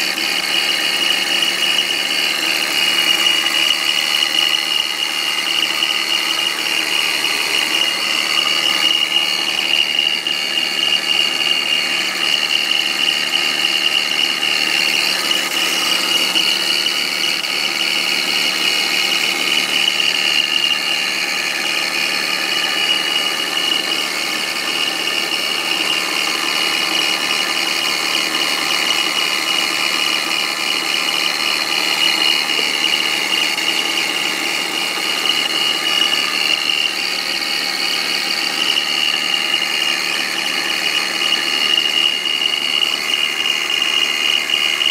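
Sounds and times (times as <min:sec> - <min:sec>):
car engine running: 0:00.0 - 0:44.8
high-pitched whistle: 0:00.0 - 0:44.9.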